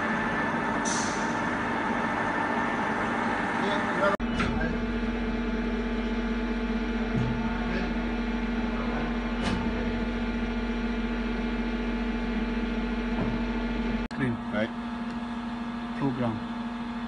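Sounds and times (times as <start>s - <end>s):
lathe mechanical hum: 0.0s - 17.0s.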